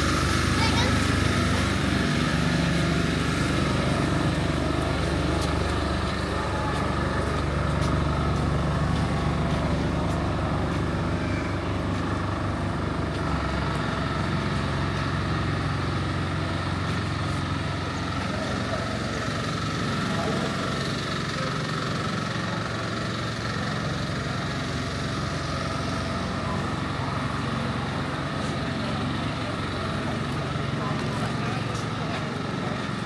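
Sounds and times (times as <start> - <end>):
heavy vehicle engine droning: 0.0 - 33.0
street noise: 0.0 - 33.0.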